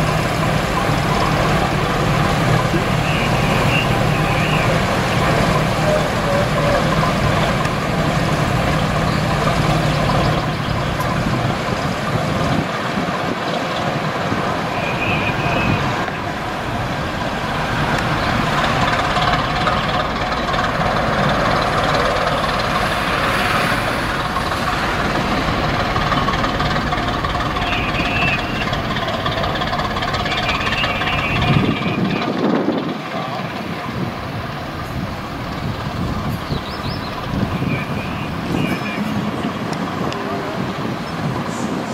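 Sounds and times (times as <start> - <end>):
diesel locomotive engine drone: 0.0 - 41.9.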